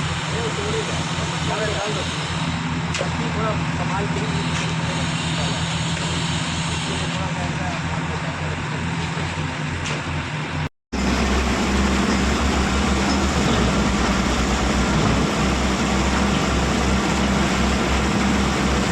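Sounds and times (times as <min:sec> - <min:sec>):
heavy diesel engine humming: 0:00.0 - 0:18.9.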